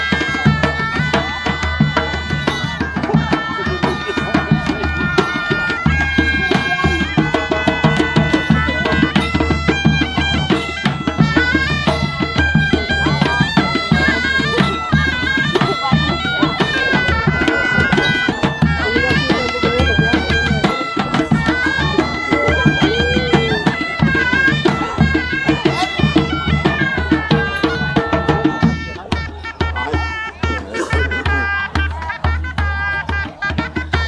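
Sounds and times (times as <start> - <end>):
bagpipe folk melody: 0.0 - 34.0
drum beat: 0.0 - 34.0.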